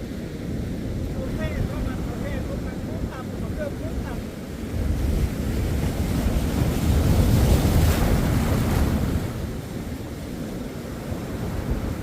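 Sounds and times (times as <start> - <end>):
low surf rumble: 0.0 - 10.1
ocean wave breaking: 0.0 - 12.0
wind buffeting microphone: 0.0 - 12.0.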